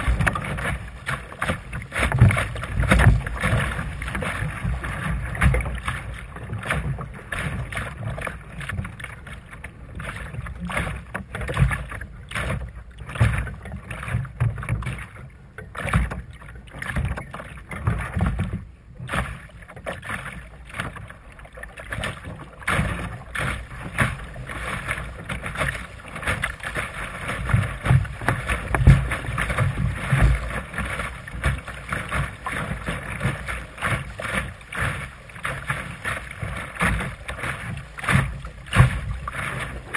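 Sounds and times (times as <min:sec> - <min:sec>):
water slapping against hull: 0:00.0 - 0:39.9.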